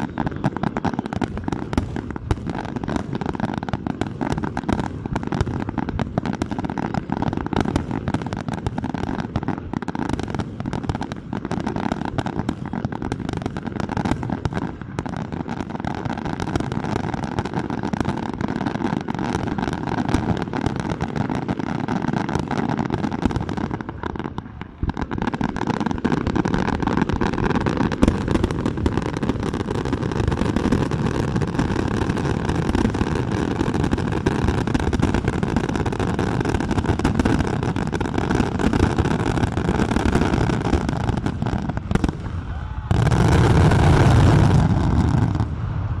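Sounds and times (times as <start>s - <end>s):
fireworks barrage crackling: 0.0s - 46.0s.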